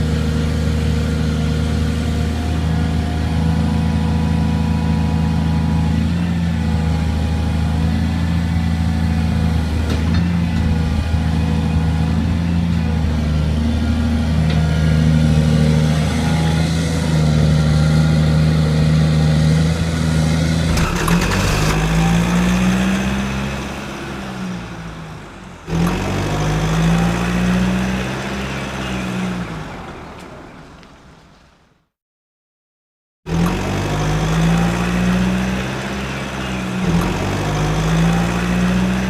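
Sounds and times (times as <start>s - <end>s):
truck engine revving: 0.0s - 30.0s, 33.3s - 39.0s.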